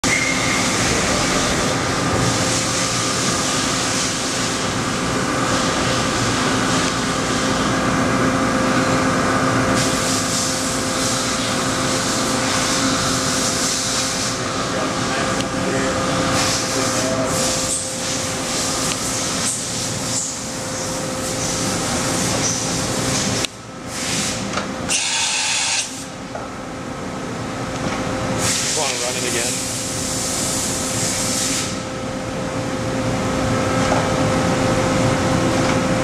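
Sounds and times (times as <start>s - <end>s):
machine spindle humming: 0.0s - 36.0s.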